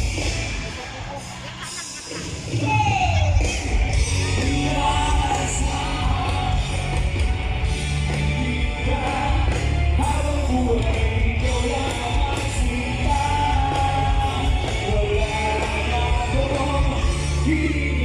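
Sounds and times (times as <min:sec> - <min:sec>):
live rock band: 0:00.0 - 0:18.0
person singing: 0:02.6 - 0:07.2, 0:08.0 - 0:18.0.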